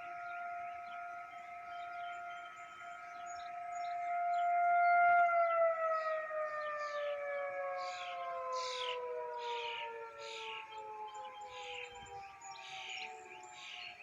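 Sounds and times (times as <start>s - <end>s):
birds chirping: 0.0s - 14.0s
rotating warning siren: 0.0s - 14.0s.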